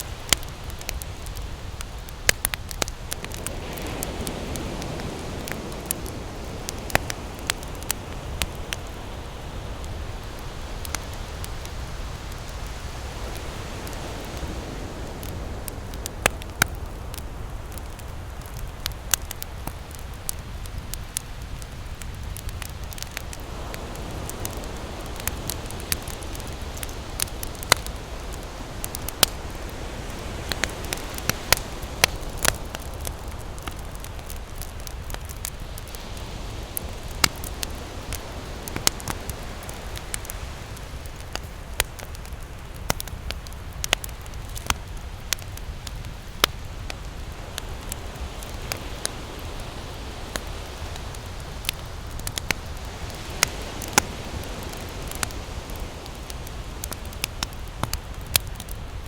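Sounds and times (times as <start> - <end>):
campfire crackling and popping: 0.0 - 59.0
ocean surf: 0.0 - 59.0.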